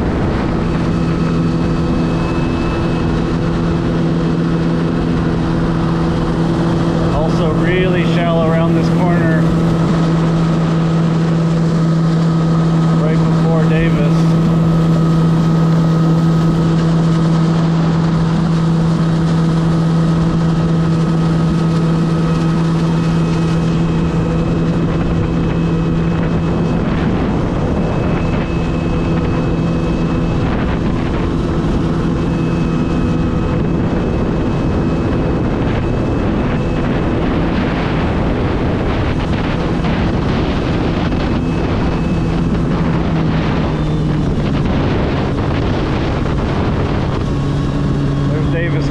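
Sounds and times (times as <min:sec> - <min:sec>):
jet ski engine running: 0:00.0 - 0:48.9
wind buffeting microphone: 0:00.0 - 0:48.9.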